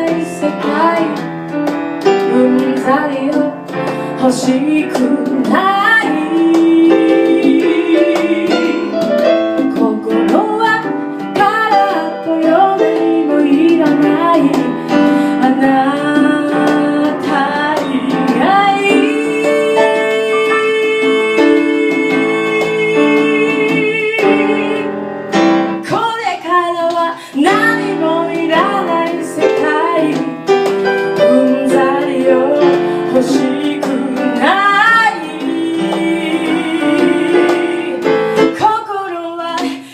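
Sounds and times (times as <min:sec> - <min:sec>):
woman singing: 0:00.0 - 0:01.4, 0:02.2 - 0:25.0, 0:25.8 - 0:39.9
guitar: 0:00.0 - 0:26.6, 0:27.2 - 0:38.8
piano: 0:00.0 - 0:39.9.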